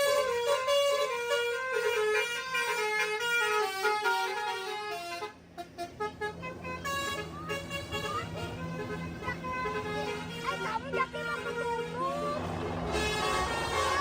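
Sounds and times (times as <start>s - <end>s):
multi-tone bus horn tune: 0.0s - 14.0s.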